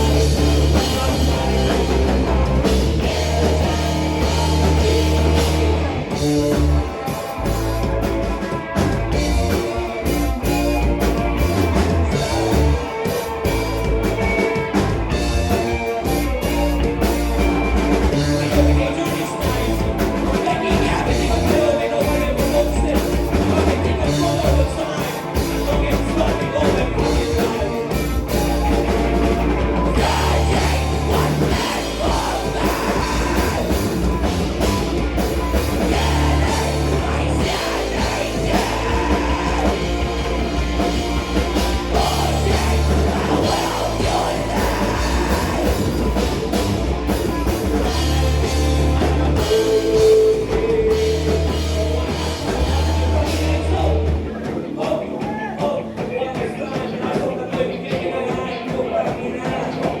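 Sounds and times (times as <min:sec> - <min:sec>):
person singing: 0:00.0 - 0:07.1, 0:15.4 - 0:46.6, 0:47.8 - 1:00.0
strong bass notes: 0:00.0 - 0:24.8, 0:25.4 - 0:54.5
drum kit: 0:00.0 - 1:00.0
rock band playing live: 0:00.0 - 1:00.0.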